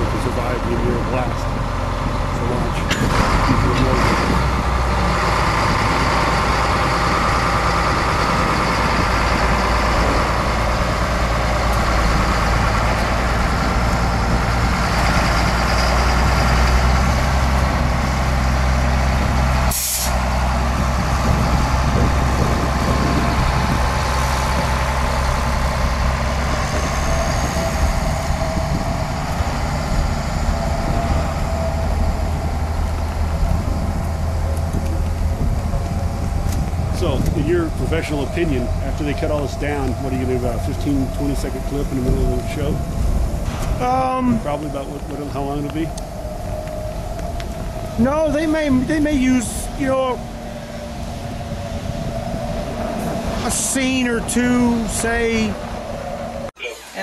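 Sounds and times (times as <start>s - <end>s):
large engine droning: 0.0s - 56.6s.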